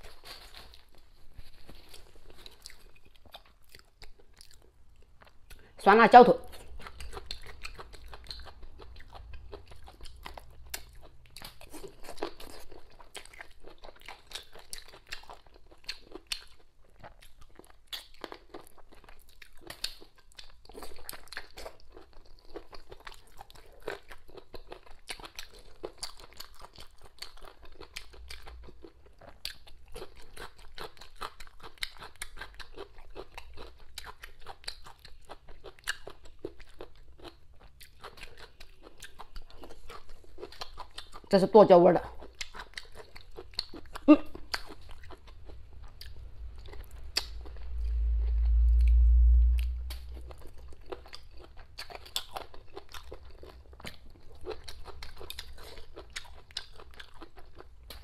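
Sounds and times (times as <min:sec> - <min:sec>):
person chewing food: 0:00.0 - 0:05.8, 0:06.5 - 0:41.3, 0:42.0 - 0:58.0.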